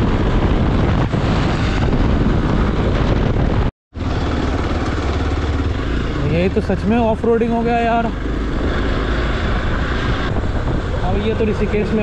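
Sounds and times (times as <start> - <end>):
wind buffeting microphone: 0.0 - 12.0
motorcycle engine running: 1.9 - 11.8.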